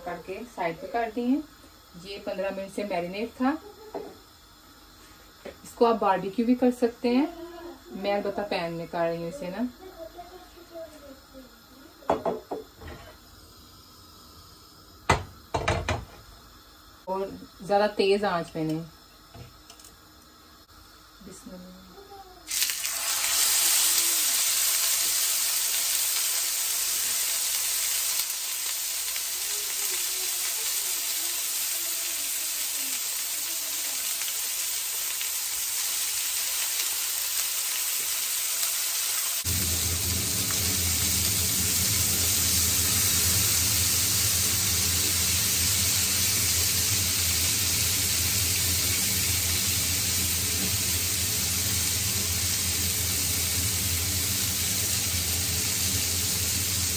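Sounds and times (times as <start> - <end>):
meat sizzling in a grill pan: 0.0 - 56.9.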